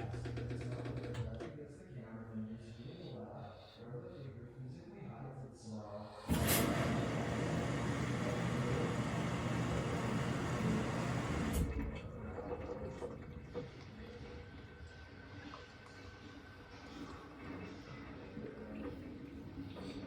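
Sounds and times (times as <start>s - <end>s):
washing machine steady hum: 0.0s - 4.4s, 6.1s - 20.0s.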